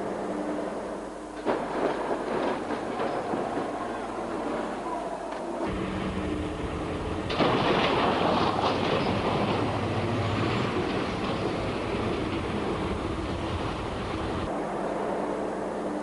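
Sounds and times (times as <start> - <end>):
dump truck rumbling: 0.0 - 15.5.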